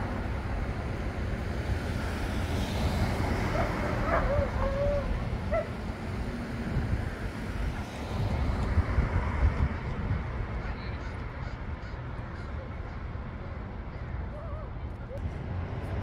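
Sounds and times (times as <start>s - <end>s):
traffic noise: 0.0s - 16.0s
wind rumble on microphone: 0.0s - 16.0s.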